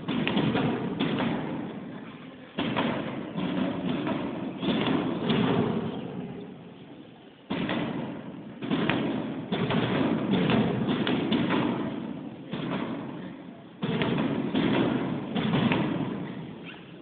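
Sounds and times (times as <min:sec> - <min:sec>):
fireworks bangs: 0:00.0 - 0:06.8, 0:07.5 - 0:16.7.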